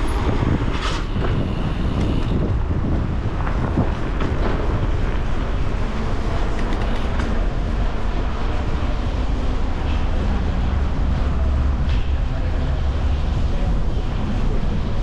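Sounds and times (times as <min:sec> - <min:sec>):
bicycle tyre rolling: 0:00.0 - 0:15.0
wind on microphone: 0:00.0 - 0:15.0.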